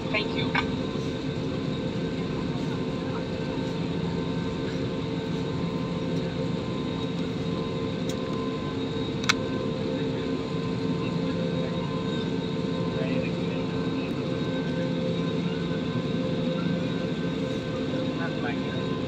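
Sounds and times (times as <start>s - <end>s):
jet engines running low: 0.0s - 19.0s.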